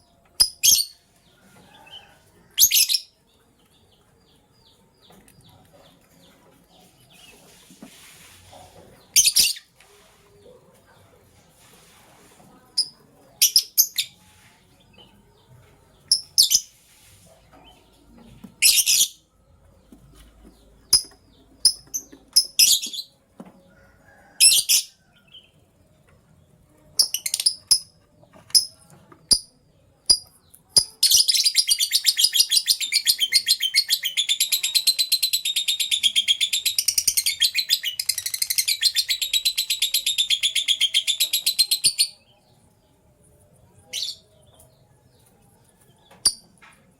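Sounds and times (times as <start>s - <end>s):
lovebirds chirping: 0.0s - 25.9s, 26.7s - 46.9s.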